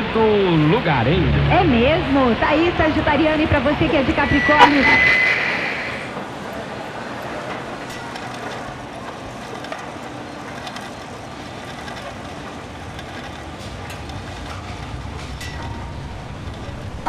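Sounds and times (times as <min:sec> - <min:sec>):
station mechanical rumble and hiss: 0:00.0 - 0:17.0.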